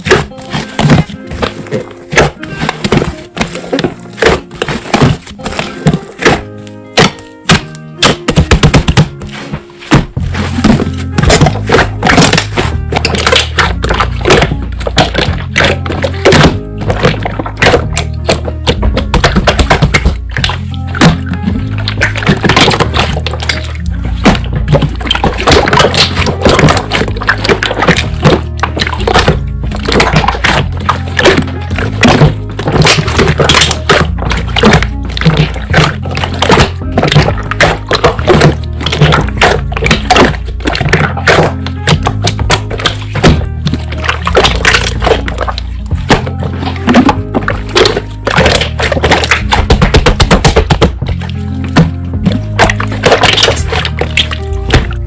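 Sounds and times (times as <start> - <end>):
background music: 0.0 - 55.0
slime squishing wet clicks: 0.0 - 55.0.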